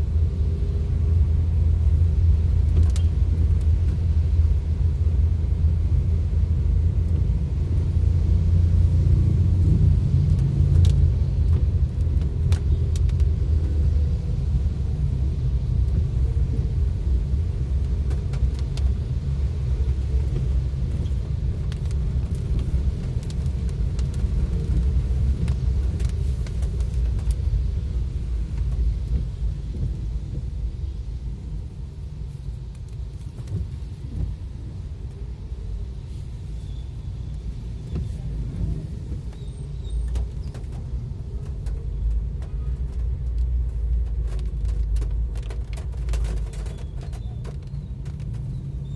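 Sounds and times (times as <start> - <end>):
heavy rain: 0.0 - 48.9
vehicle road and engine rumble: 0.0 - 48.9.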